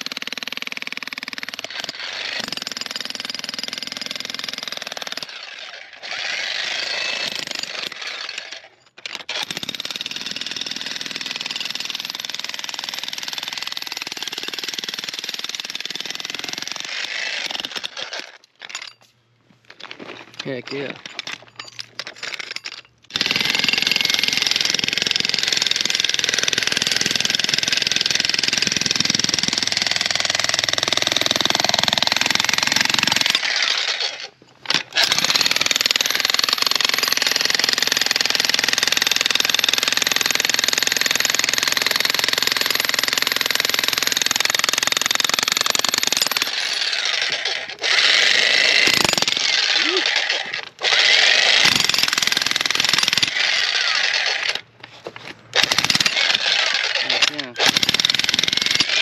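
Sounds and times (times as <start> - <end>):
jackhammer hammering into rock: 0.0 - 18.8, 20.5 - 54.7, 55.5 - 59.0.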